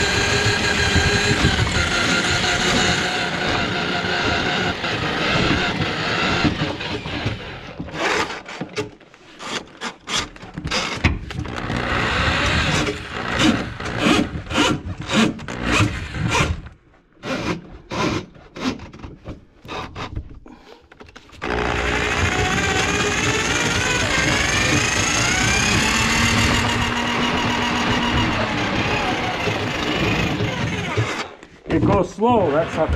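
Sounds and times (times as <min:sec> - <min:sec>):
drain auger cable scraping: 0:00.0 - 0:16.6, 0:17.2 - 0:32.9.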